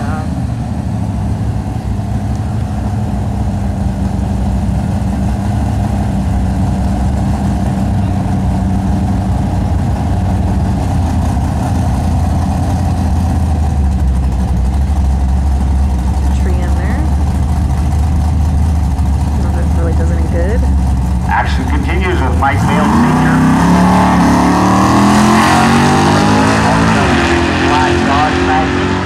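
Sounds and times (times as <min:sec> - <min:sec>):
race car engines idling: 0:00.0 - 0:29.0.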